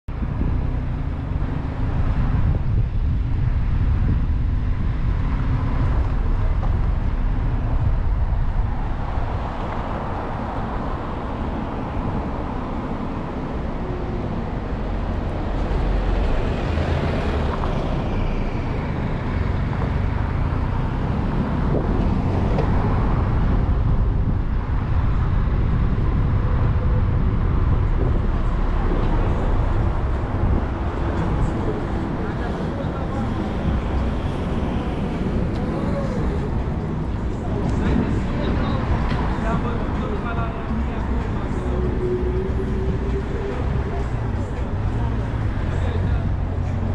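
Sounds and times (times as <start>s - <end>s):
car engine and tyre rumble: 0.1s - 46.9s.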